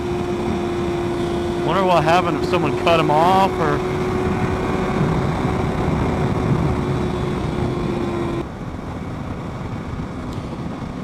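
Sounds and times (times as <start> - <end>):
motorcycle engine running: 0.0 - 11.0
wind rush: 0.0 - 11.0.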